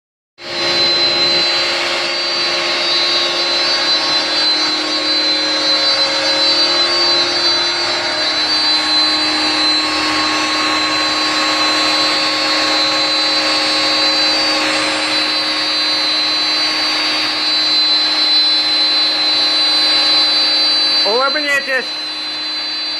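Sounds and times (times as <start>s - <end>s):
router spindle whining: 0.4s - 22.9s.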